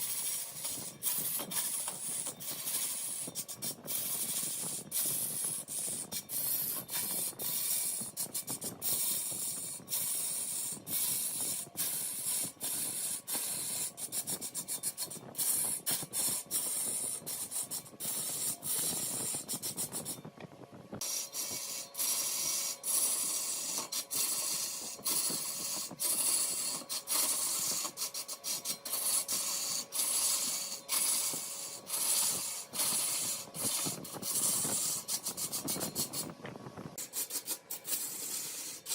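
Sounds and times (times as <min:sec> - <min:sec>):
lathe tool shaving spinning wood: 0:00.0 - 0:20.2, 0:21.0 - 0:36.4, 0:37.0 - 0:38.9.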